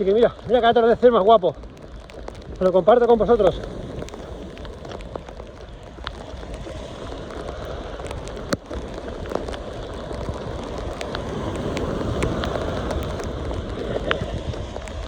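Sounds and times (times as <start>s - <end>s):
heavy rain: 0.0s - 15.0s
raindrops ticking: 0.0s - 15.0s.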